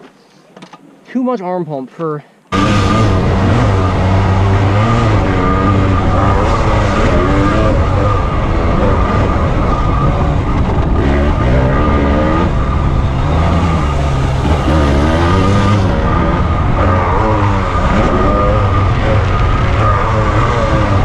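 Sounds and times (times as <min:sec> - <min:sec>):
dirt bike engine revving: 0:02.5 - 0:21.0.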